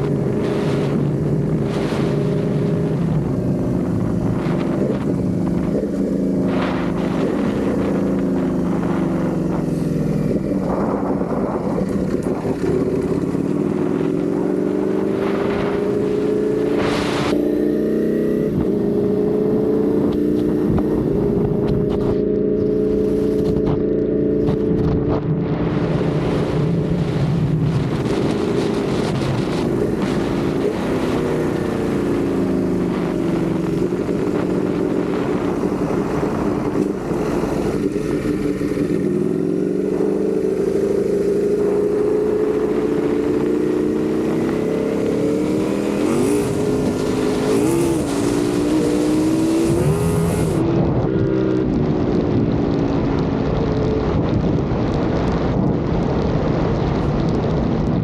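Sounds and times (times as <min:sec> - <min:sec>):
motorcycle engine revving: 0:00.0 - 0:58.0
wind noise rushing: 0:00.0 - 0:58.0.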